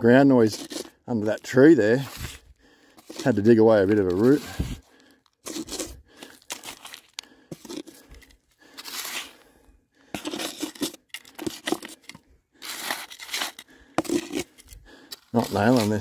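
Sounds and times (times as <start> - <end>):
scoop digging into stony soil: 0.2 - 9.4, 10.1 - 16.0.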